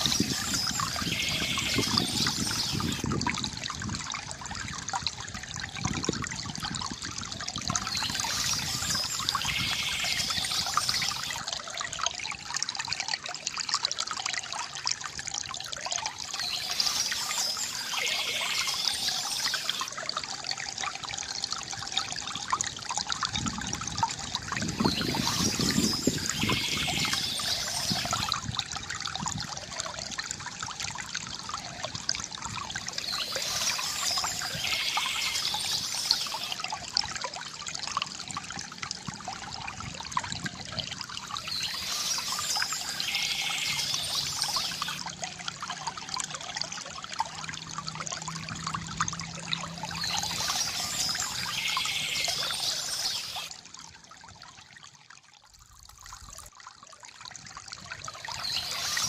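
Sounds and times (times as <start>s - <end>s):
water trickling from fountain: 0.0s - 59.0s.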